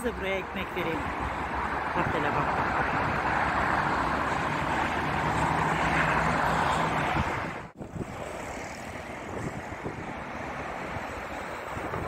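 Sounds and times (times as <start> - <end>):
distant city traffic: 0.0 - 12.0
wind: 0.0 - 12.0.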